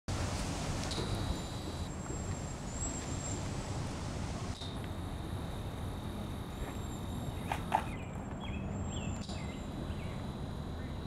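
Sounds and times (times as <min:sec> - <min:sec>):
thin steady high whine: 0:00.1 - 0:11.0.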